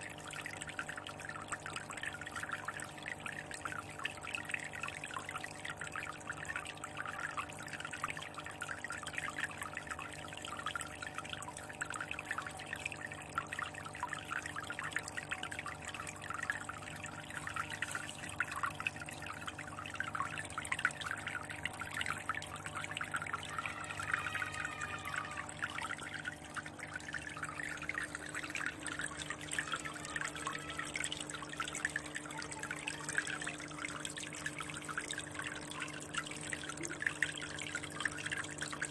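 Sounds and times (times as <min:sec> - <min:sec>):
water splashing into fish tank: 0:00.0 - 0:38.9.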